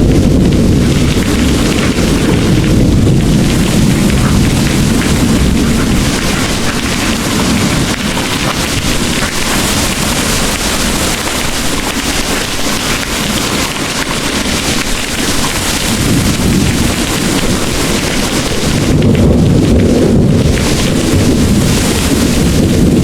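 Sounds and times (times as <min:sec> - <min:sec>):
heavy rain pouring: 0:00.0 - 0:23.0
thunder rumbling: 0:00.0 - 0:23.0.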